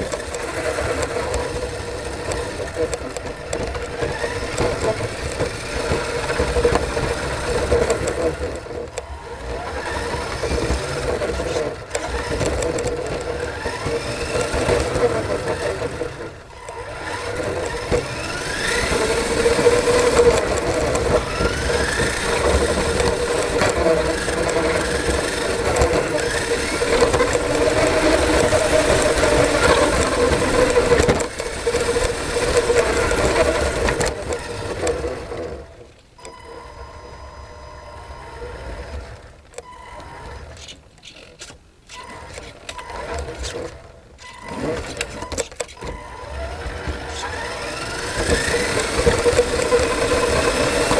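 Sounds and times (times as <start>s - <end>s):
toy car motor whine: 0.0s - 50.9s.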